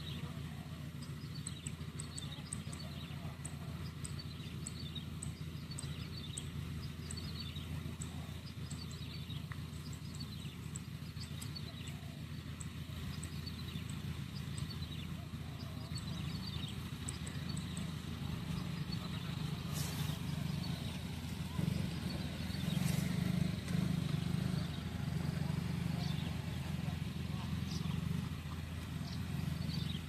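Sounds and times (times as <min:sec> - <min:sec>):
combine harvester engine drone: 0:00.0 - 0:30.0.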